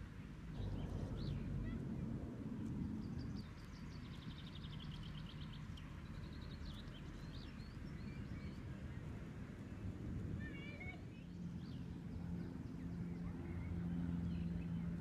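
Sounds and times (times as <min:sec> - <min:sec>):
low background rumble: 0:00.0 - 0:15.0
songbird singing: 0:00.0 - 0:15.0.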